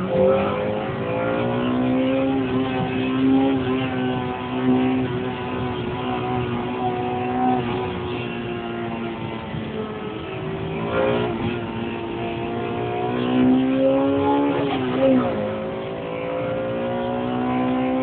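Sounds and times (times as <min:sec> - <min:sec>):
car engine revving high: 0:00.0 - 0:18.0.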